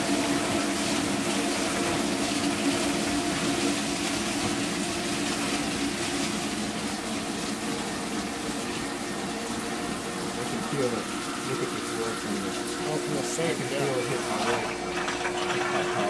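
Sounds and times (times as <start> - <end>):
dishwasher motor hum: 0.0 - 16.0
water spraying and splashing: 0.0 - 16.0.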